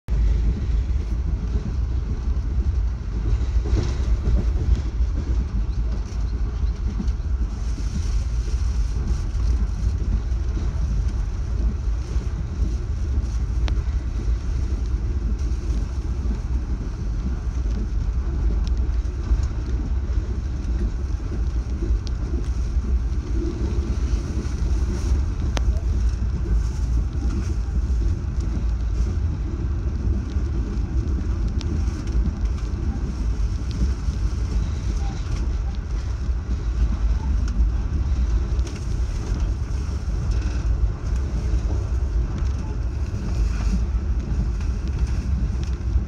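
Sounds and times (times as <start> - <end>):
train rumbling on track: 0.0 - 46.0.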